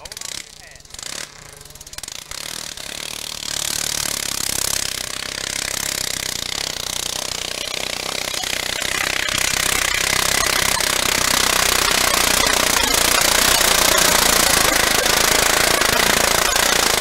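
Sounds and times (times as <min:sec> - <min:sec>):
tractor engine running hard under load: 0:00.0 - 0:17.0.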